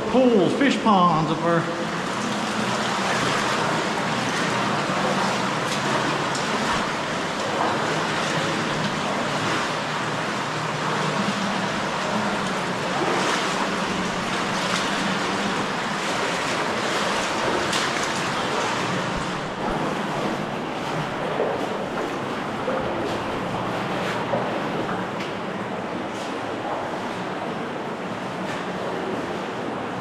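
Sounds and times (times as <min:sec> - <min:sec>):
stream running in a cave: 0:00.0 - 0:30.0.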